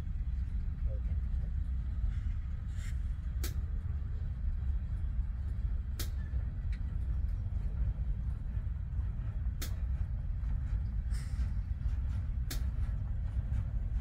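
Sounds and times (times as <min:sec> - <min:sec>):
train rumbling past with clicks: 0:00.0 - 0:14.0.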